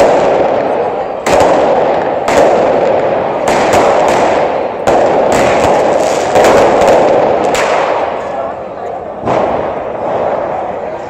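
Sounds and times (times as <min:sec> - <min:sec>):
fireworks bangs: 0:00.0 - 0:11.0
loud background din: 0:00.0 - 0:11.0.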